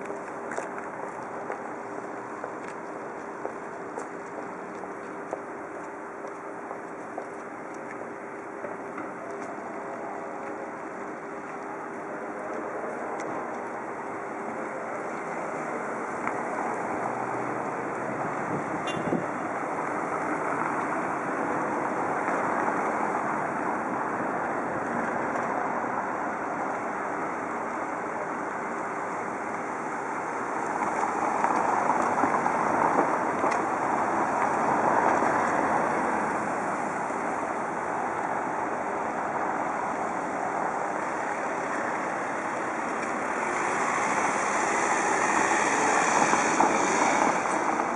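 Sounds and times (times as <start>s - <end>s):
cars passing on street: 0.0s - 47.9s.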